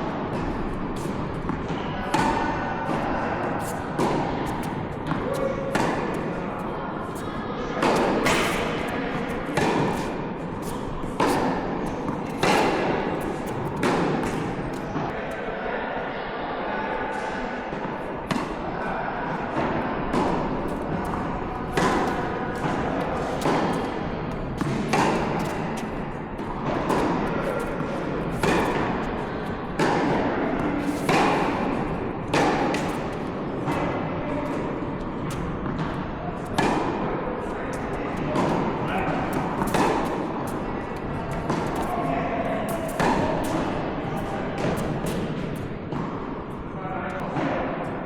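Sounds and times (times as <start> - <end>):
racket striking tennis ball: 0.1 - 15.4, 17.1 - 18.6, 19.3 - 46.6
tennis ball bouncing: 0.1 - 15.4, 17.1 - 18.6, 19.5 - 46.6.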